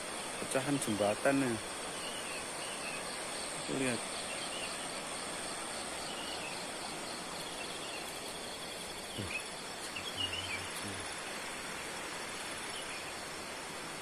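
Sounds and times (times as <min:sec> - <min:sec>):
insects trilling: 0:00.0 - 0:14.0
outdoor background noise: 0:00.0 - 0:14.0.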